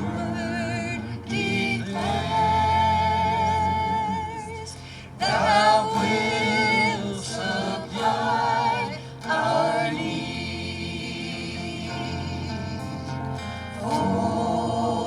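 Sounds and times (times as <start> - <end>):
gospel singing voices: 0.0 - 15.0.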